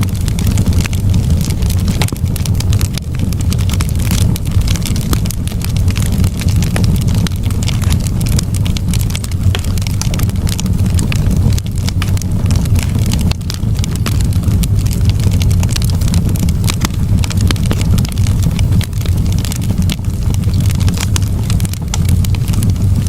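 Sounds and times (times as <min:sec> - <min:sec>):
campfire crackling and popping: 0:00.0 - 0:23.0
low rumble of fire: 0:00.0 - 0:23.0.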